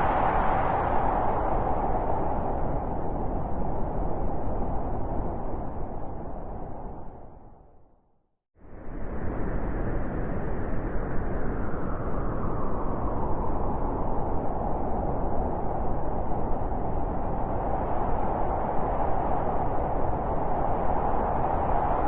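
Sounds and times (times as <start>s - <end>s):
blizzard wind howling: 0.0s - 8.0s, 8.6s - 22.0s.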